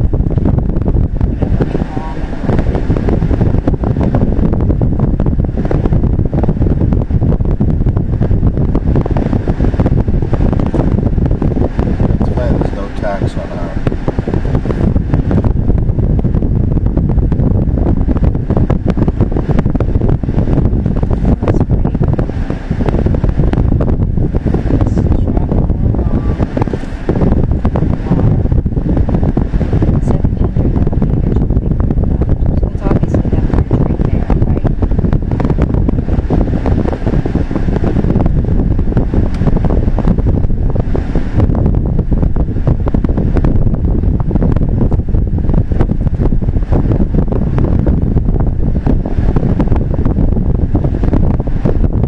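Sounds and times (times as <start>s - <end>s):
car road and engine rumble: 0.0s - 52.0s
wind buffeting on microphone: 0.0s - 52.0s.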